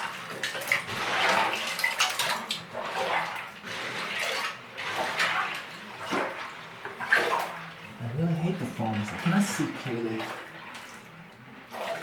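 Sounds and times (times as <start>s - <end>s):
hands sloshing in water: 0.0s - 12.0s.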